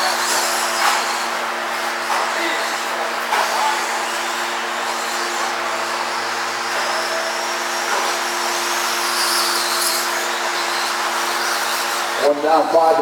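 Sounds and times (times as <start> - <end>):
radio-controlled trucks whirring: 2.2 - 13.0.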